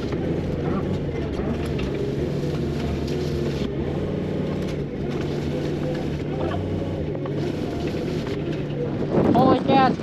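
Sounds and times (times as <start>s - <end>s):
farm machine engine running: 0.0s - 10.0s.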